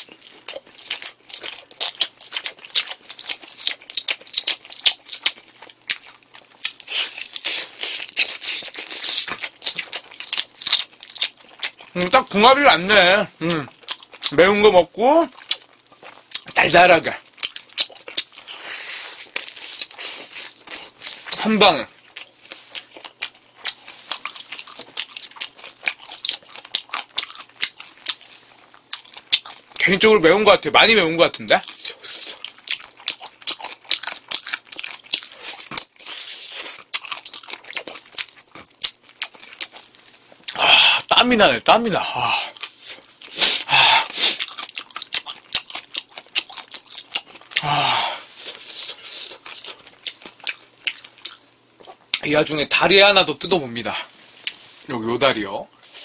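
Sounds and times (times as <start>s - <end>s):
man chewing chicken: 0.0s - 12.2s, 13.4s - 14.4s, 15.3s - 29.9s, 31.5s - 41.1s, 42.0s - 52.3s, 55.7s - 56.0s.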